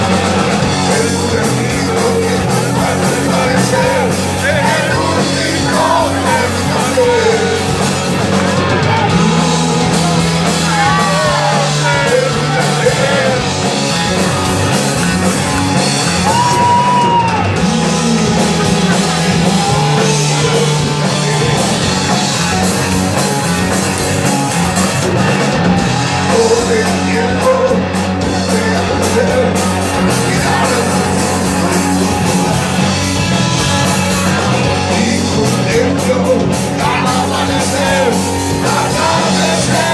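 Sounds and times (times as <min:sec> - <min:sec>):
rock band playing: 0:00.0 - 0:39.9
person singing: 0:00.7 - 0:13.6, 0:16.2 - 0:22.6, 0:26.2 - 0:39.9.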